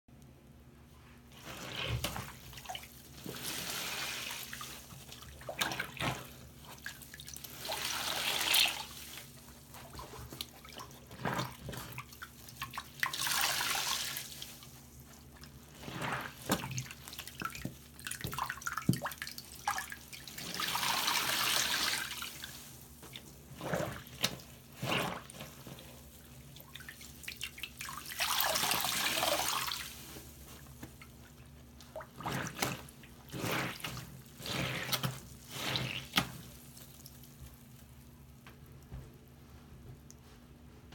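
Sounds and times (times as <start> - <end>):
water gushing from squeezed sponges: 1.3 - 38.1
water dripping and splashing: 2.1 - 38.0.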